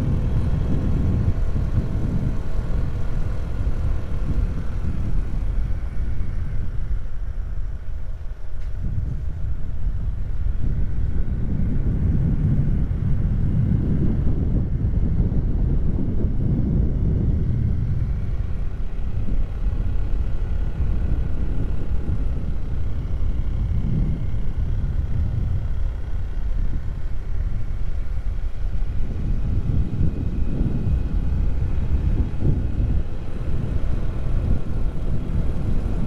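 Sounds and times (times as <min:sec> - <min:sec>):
motorcycle engine rumble: 0:00.0 - 0:36.0.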